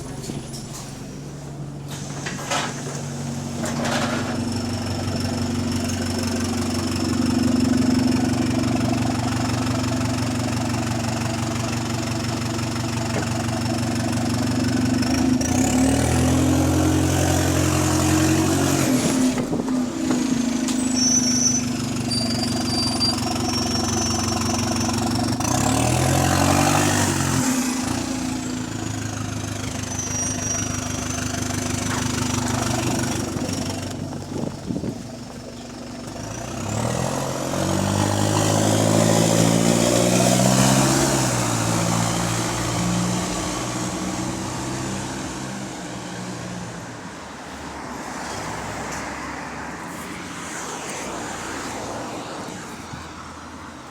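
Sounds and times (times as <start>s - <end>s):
bus engine running: 0.0s - 47.7s.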